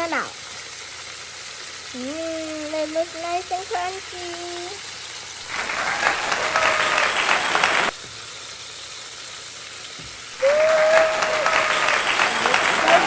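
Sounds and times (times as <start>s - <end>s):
chicken deep-frying in oil: 0.0s - 11.6s.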